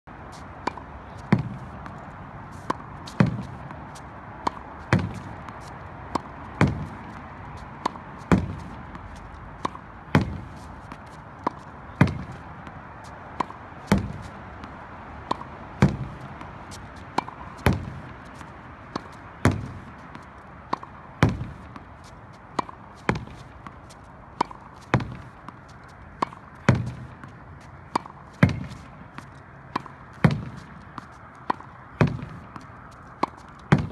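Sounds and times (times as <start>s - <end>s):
racket striking tennis ball: 0.3s - 33.9s
tennis ball hitting wall: 0.6s - 3.8s, 4.4s - 12.7s, 13.4s - 21.9s, 22.5s - 23.8s, 24.4s - 33.9s
ball bouncing on hard court: 0.6s - 12.7s, 13.4s - 21.9s, 22.6s - 23.8s, 24.4s - 33.9s.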